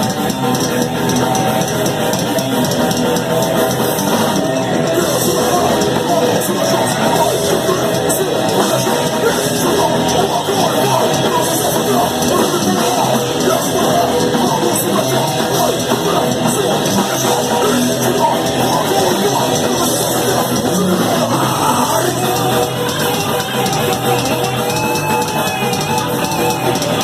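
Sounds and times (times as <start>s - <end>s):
thrash metal band playing: 0.0s - 27.0s
person singing: 3.4s - 27.0s.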